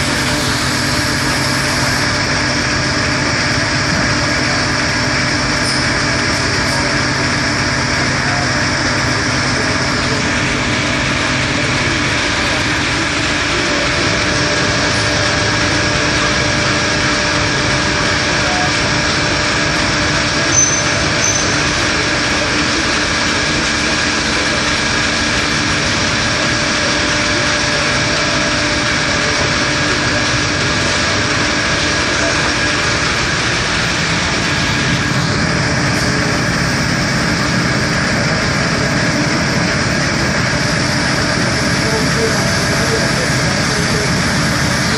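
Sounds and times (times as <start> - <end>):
gear shaping machine running: 0.0 - 44.9.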